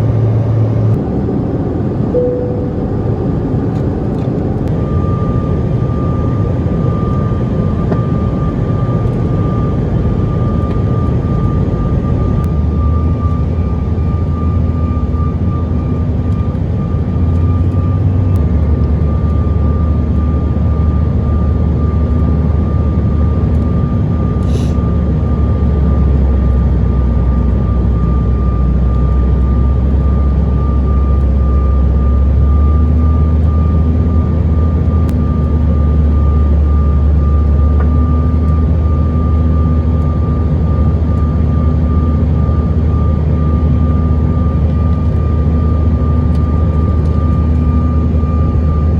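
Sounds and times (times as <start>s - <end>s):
jet engine drone in cabin: 0.0s - 48.9s.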